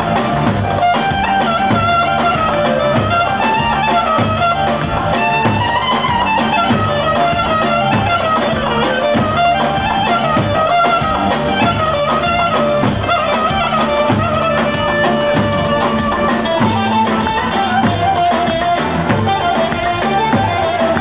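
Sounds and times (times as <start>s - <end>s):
bass drum beating: 0.0s - 21.0s
ornamented melody: 0.0s - 21.0s.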